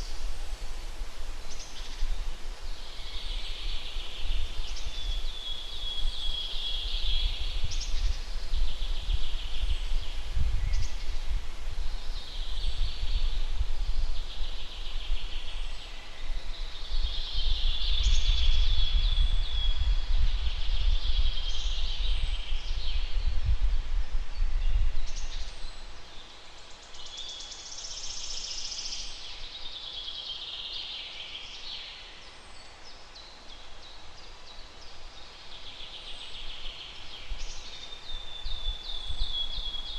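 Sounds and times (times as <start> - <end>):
wind rumble on microphone: 0.0 - 26.7, 32.5 - 39.9
songbirds singing: 0.0 - 39.9.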